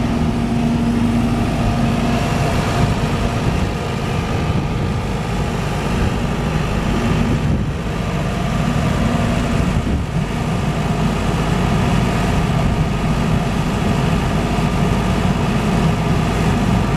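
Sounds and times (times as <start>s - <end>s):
diesel generator droning: 0.0s - 16.9s.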